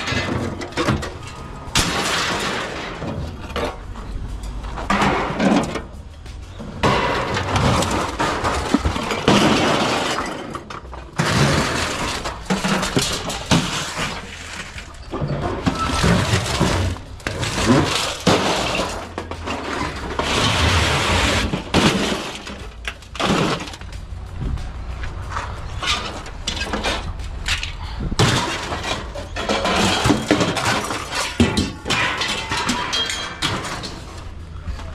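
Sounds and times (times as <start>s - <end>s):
scrap metal clattering onto pile: 0.0s - 24.0s, 25.3s - 34.4s.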